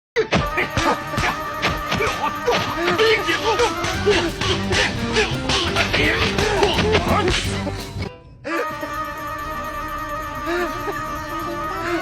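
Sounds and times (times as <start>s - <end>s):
background music with steady beat: 0.2s - 12.0s.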